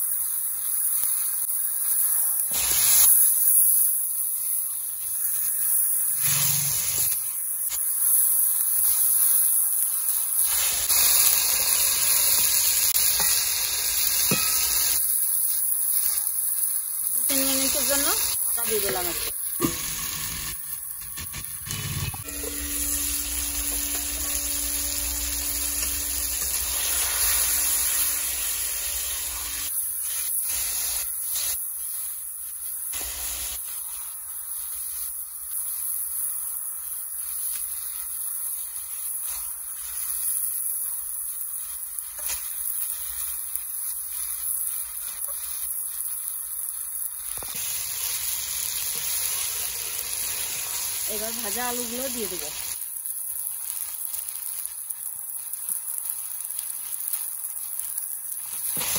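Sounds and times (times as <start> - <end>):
meat sizzling in a pan: 0.0 - 58.9.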